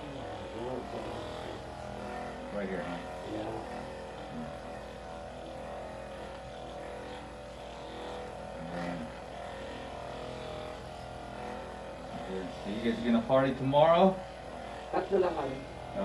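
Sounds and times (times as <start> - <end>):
massage gun motor buzzing: 0.0 - 16.0.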